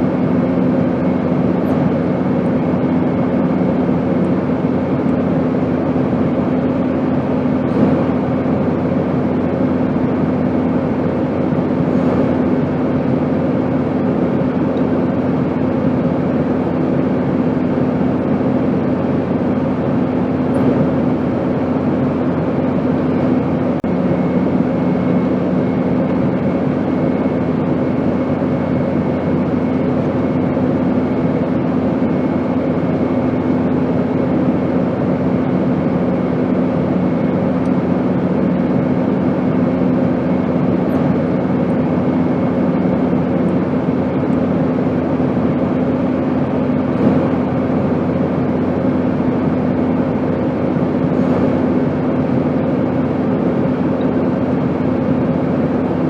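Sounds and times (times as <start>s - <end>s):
airplane drone: 0.0s - 56.0s
low hum: 0.0s - 56.0s.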